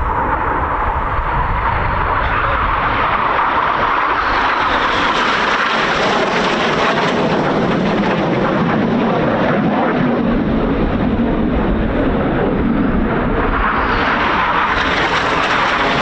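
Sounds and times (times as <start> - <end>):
jet aircraft engines roaring: 0.0 - 16.0.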